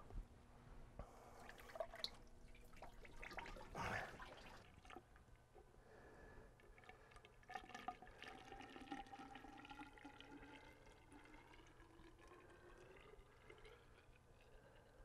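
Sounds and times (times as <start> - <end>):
liquid trickling and gurgling: 1.3 - 5.5, 6.5 - 15.0.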